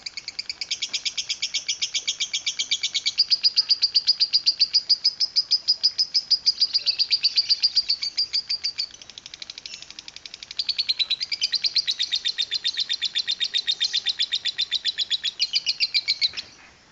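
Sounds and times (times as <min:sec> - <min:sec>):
bird chattering song: 0:00.0 - 0:16.7.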